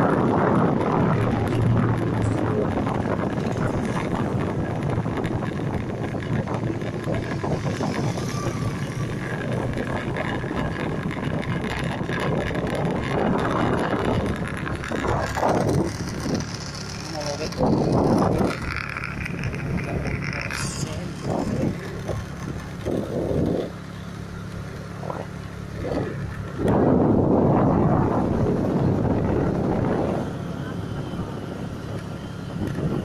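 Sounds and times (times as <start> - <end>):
vehicle rumble: 0.0 - 33.0
wind rushing over microphone: 0.0 - 33.0.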